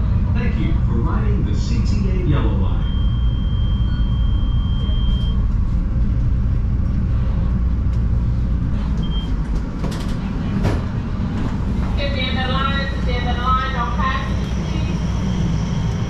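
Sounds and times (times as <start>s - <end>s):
railcar low rumble: 0.0s - 16.0s.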